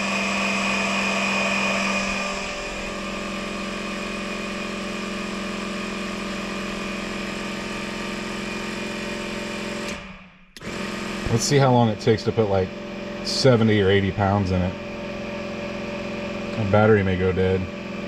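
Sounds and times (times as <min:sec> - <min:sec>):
air compressor humming and whining: 0:00.0 - 0:18.0.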